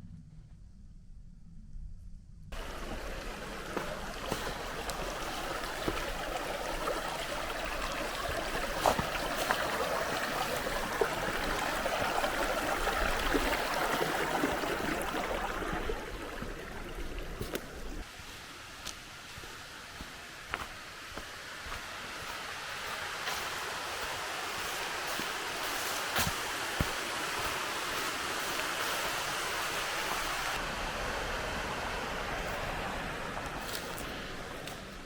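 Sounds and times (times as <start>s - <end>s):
stream running over rocks: 2.6s - 35.0s.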